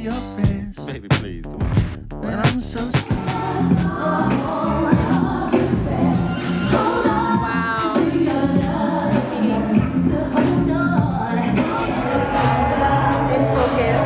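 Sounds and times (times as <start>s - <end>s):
steady drum beat: 0.0s - 4.0s, 5.0s - 14.0s
pop music with singing: 0.0s - 14.0s.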